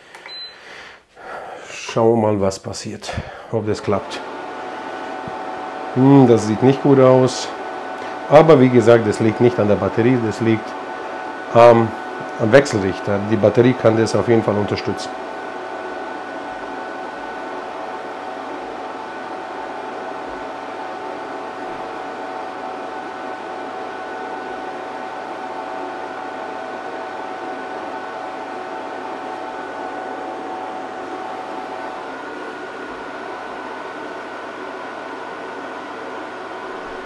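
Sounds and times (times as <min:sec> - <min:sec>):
power inverter whir and hum: 0:00.0 - 0:02.2, 0:03.1 - 0:37.0.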